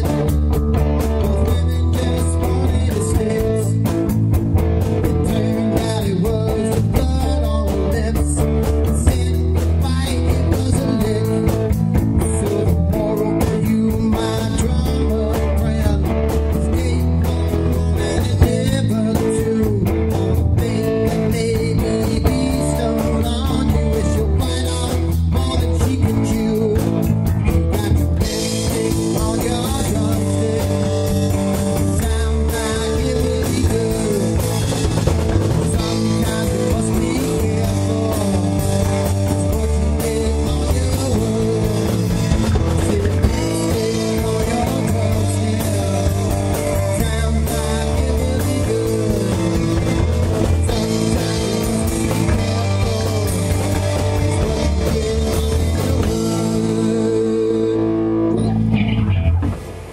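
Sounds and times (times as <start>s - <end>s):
blues-rock band playing: 0.0s - 59.9s.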